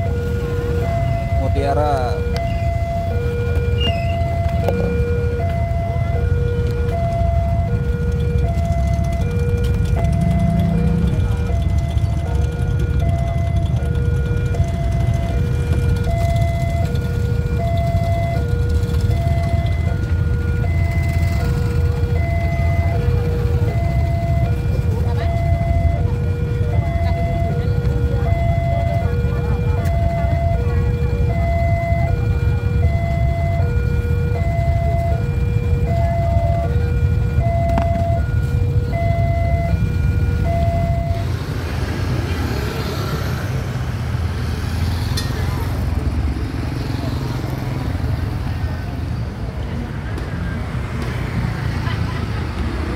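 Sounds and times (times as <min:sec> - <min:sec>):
street traffic noise: 0:00.0 - 0:52.9
two-tone electronic siren: 0:00.0 - 0:52.9.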